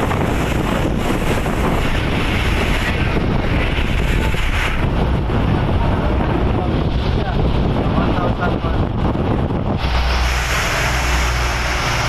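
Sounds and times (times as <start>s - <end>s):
boat engine running: 0.0s - 12.0s
water rushing: 0.0s - 12.0s
wind buffeting microphone: 0.0s - 12.0s.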